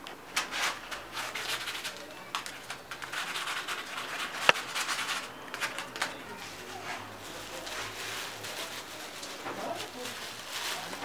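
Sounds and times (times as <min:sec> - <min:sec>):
puppies scuffling and rustling: 0:00.0 - 0:11.0.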